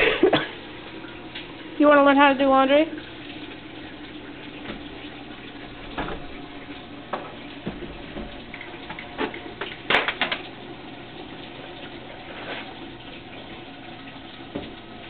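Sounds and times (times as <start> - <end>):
washing machine filling with water: 0.0 - 15.0.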